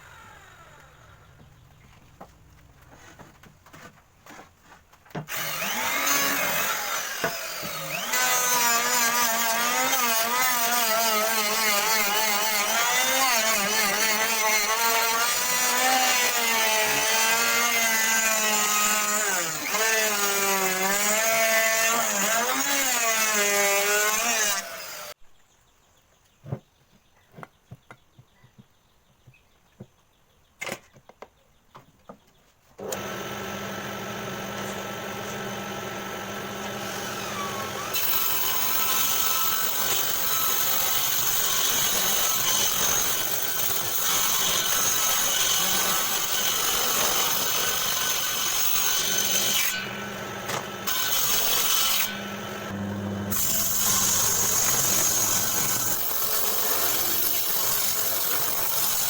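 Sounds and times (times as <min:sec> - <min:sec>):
table saw cutting wood: 0:00.0 - 0:01.4, 0:05.2 - 0:25.2, 0:32.8 - 0:59.0.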